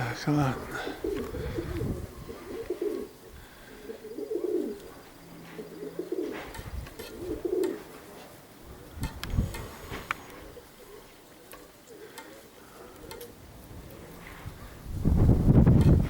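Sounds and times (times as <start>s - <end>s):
pigeons cooing: 0.0s - 14.9s.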